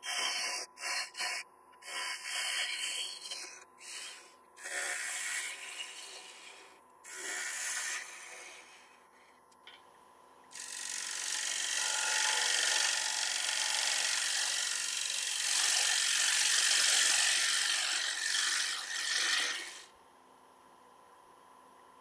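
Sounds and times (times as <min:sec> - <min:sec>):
gouge cutting wood on lathe: 0:00.0 - 0:08.9, 0:10.6 - 0:19.9.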